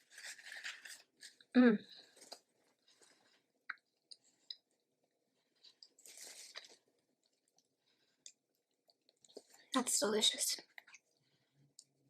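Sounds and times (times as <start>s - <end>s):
person chewing food: 0.0s - 9.7s, 10.7s - 12.0s.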